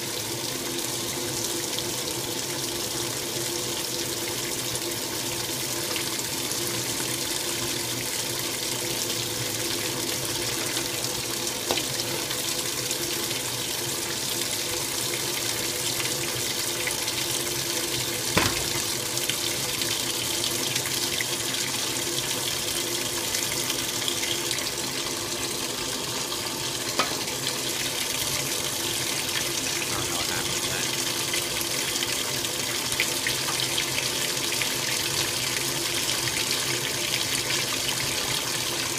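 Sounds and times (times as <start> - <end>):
washer agitator churning water: 0.0 - 38.9.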